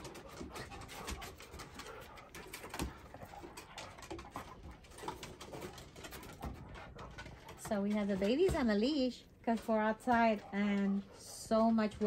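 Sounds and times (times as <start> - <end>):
dogs scuffling on wooden deck: 0.0 - 12.0.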